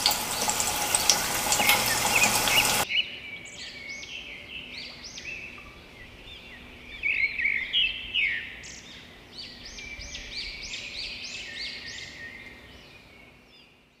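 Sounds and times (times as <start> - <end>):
birds chirping: 0.0 - 12.7.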